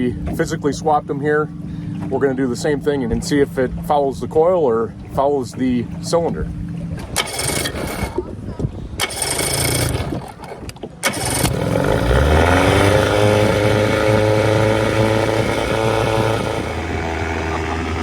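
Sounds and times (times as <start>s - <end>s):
outboard motor starting and running: 0.0s - 18.0s.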